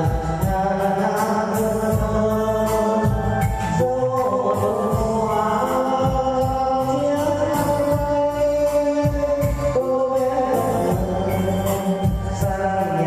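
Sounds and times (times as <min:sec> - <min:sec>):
backing track with steady beat: 0:00.0 - 0:13.0
man singing: 0:00.0 - 0:13.0.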